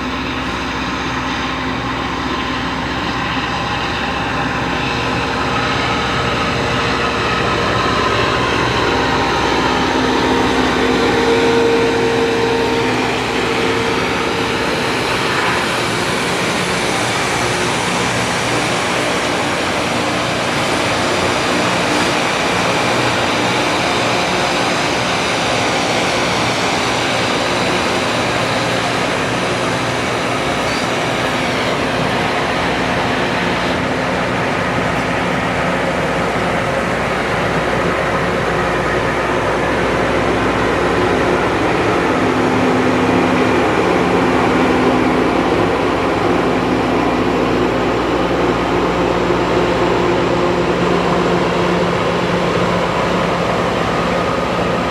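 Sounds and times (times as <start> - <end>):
diesel engines running: 0.0 - 54.9
rail grinder grinding: 0.0 - 54.9.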